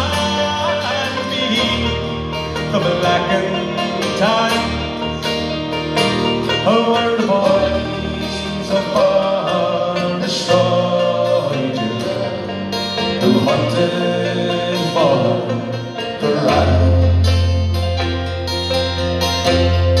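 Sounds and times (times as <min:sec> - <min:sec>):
acoustic guitar: 0:00.0 - 0:20.0
banjo: 0:00.0 - 0:20.0.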